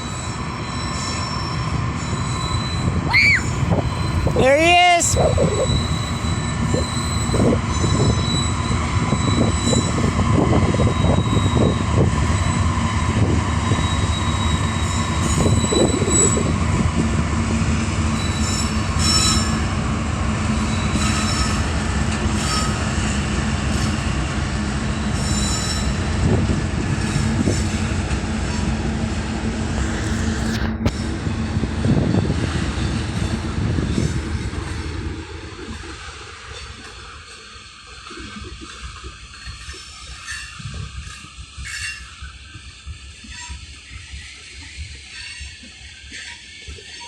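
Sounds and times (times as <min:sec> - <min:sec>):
train cars rumbling: 0:00.0 - 0:47.0
wheels squealing on rails: 0:00.0 - 0:47.0.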